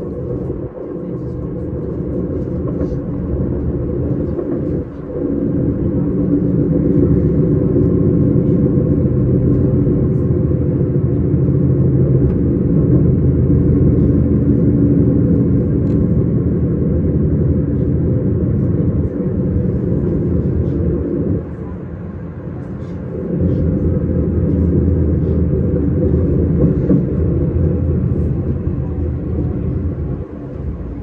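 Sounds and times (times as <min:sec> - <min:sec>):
electric train rumbling: 0:00.0 - 0:31.0.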